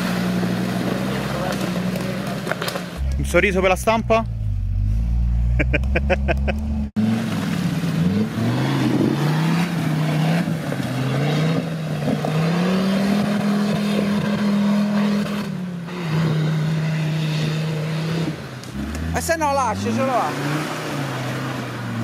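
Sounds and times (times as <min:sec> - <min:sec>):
off-road engine revving: 0:00.0 - 0:22.0.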